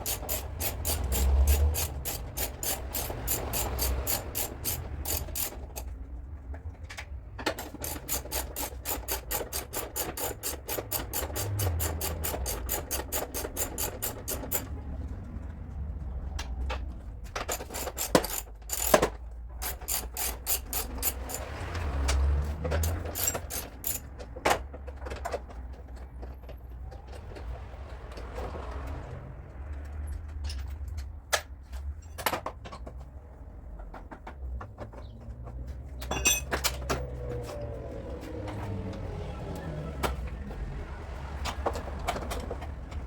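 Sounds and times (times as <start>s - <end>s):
hand tools clicking and tapping: 0.0s - 43.0s.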